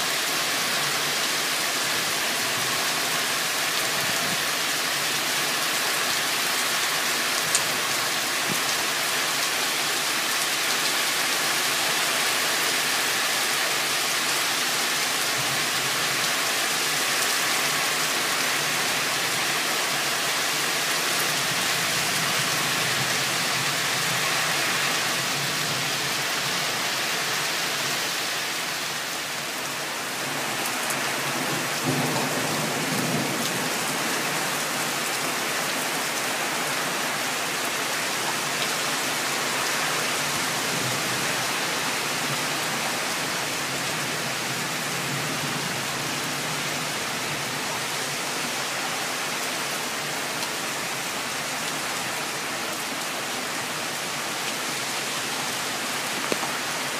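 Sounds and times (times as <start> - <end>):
heavy rain downpour: 0.0 - 56.9.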